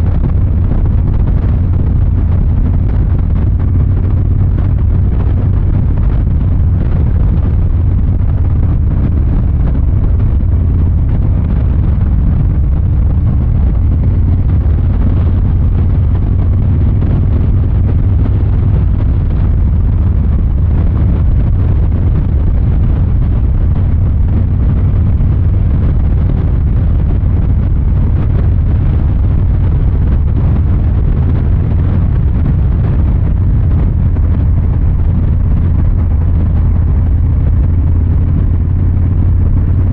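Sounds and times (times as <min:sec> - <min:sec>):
motorcycle exhaust running steadily: 0:00.0 - 0:39.9
wind on microphone: 0:00.0 - 0:39.9.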